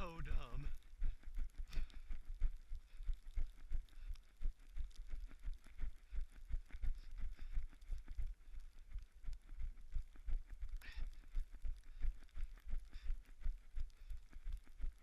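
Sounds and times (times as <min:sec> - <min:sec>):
running footsteps in snow: 0:00.0 - 0:15.0.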